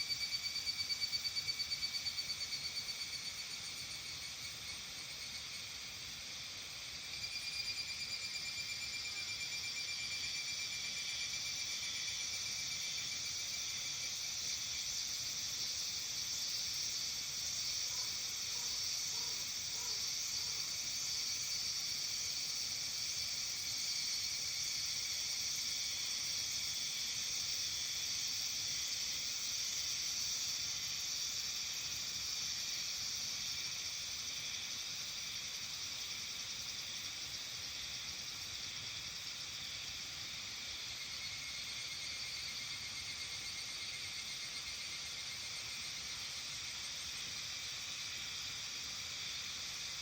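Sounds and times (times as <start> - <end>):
insect chorus: 0.0 - 50.0.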